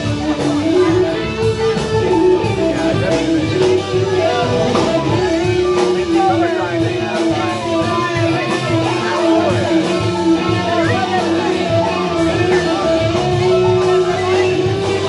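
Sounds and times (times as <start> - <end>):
bass and drum groove: 0.0 - 15.0
electric guitar lines bending: 0.0 - 15.0.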